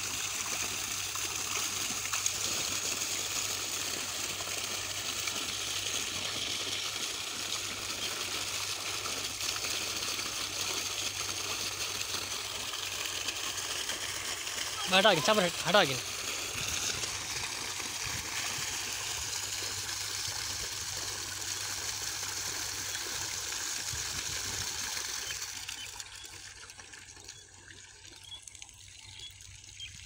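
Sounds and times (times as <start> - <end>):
water splashing onto ground: 0.0 - 27.2
water gushing from a pipe: 0.0 - 30.0.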